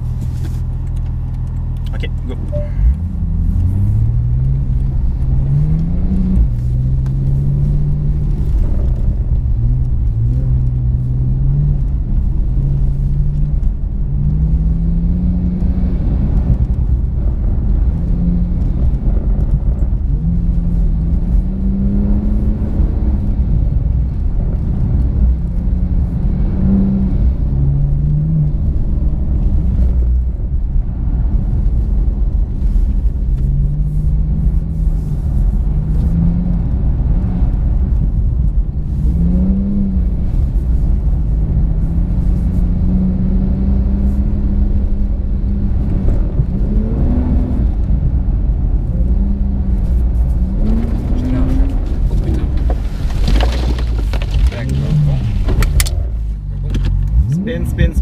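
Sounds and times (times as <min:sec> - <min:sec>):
steady low rumble: 0:00.0 - 0:58.0
car engine revving: 0:00.9 - 0:31.2, 0:31.8 - 0:58.0.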